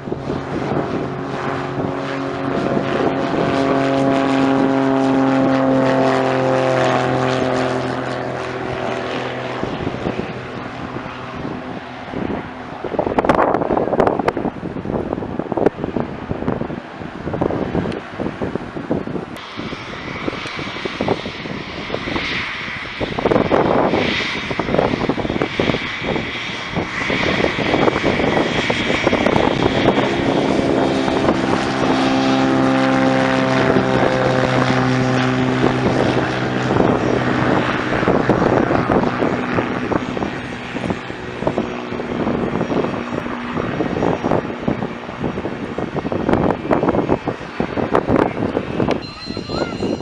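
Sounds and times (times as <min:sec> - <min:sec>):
aircraft engine drone: 0:00.0 - 0:50.0
aircraft engine whine: 0:00.0 - 0:50.0
wind buffeting microphone: 0:00.0 - 0:50.0.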